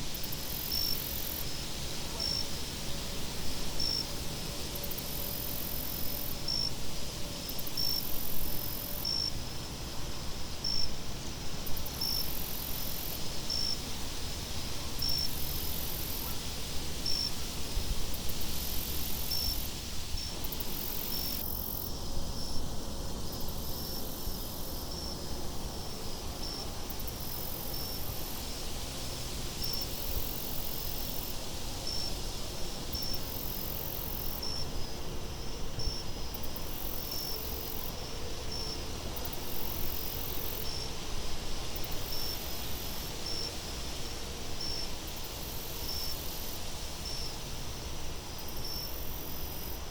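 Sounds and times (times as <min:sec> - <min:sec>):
crickets chirping: 0:00.1 - 0:06.8, 0:07.4 - 0:14.0, 0:15.0 - 0:17.4, 0:18.2 - 0:49.9.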